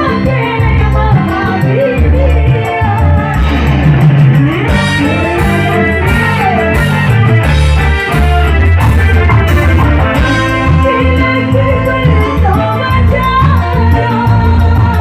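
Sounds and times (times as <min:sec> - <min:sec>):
booming bass: 0:00.0 - 0:15.0
live band playing loudly: 0:00.0 - 0:15.0.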